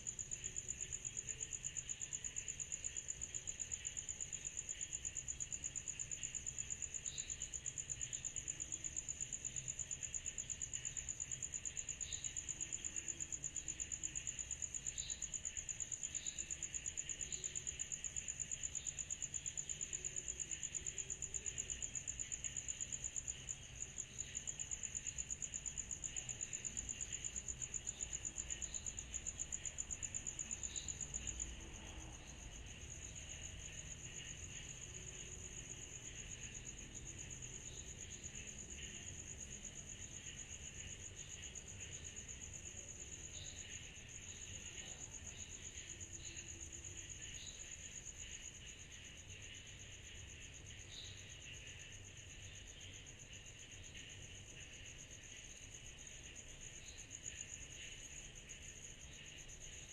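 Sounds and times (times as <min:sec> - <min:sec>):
insects humming: 0:00.0 - 0:59.9.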